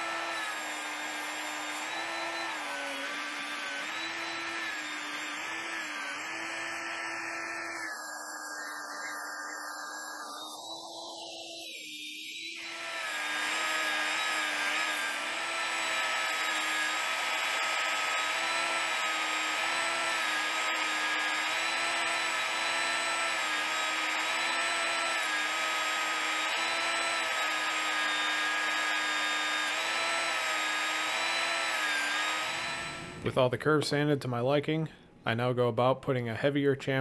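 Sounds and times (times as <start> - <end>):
belt sander sanding wood: 0.0 - 10.6, 12.5 - 33.3.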